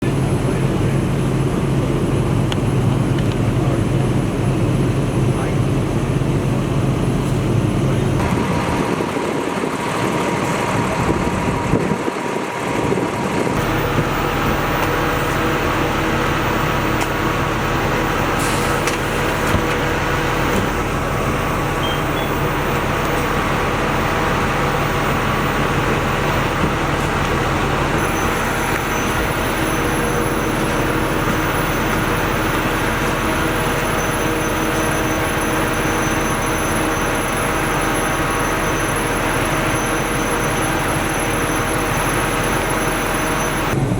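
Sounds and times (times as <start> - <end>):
fire truck engine droning: 0.0 - 43.9.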